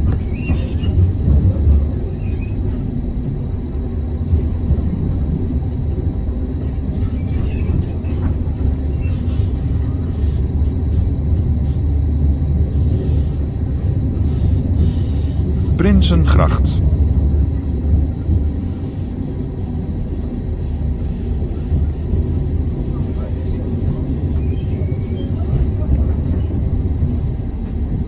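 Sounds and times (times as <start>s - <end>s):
tram wheels rumbling: 0.0s - 28.0s.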